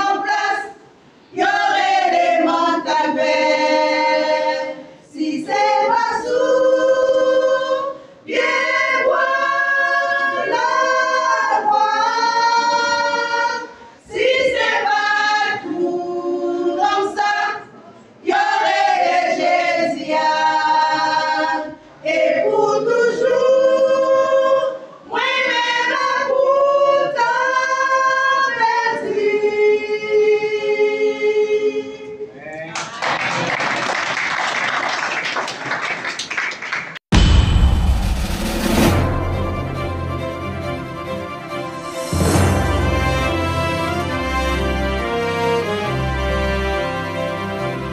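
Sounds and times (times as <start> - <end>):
choir singing gospel song: 0.0 - 32.0, 38.2 - 47.9.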